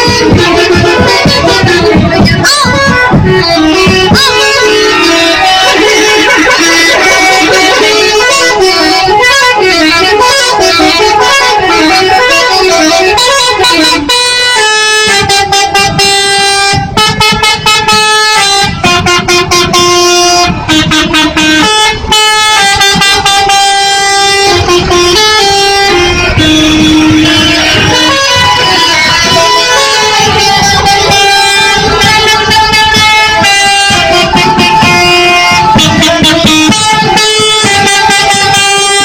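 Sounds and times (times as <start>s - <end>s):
multi-tone musical bus horn: 0.0s - 39.0s.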